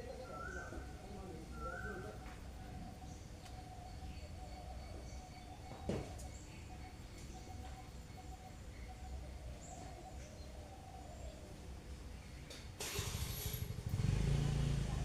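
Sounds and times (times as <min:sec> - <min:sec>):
faint bird calls: 0:00.0 - 0:12.7.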